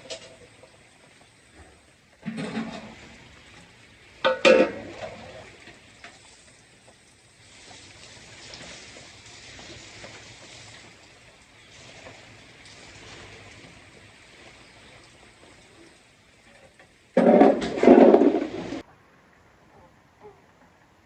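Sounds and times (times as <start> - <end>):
rain falling: 0.0 - 19.7.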